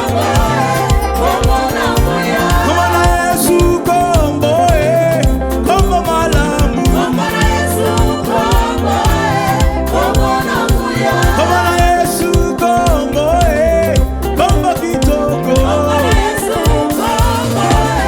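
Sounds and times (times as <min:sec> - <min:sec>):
band with deep bass: 0:00.0 - 0:18.0
steady drum beat: 0:00.0 - 0:18.0.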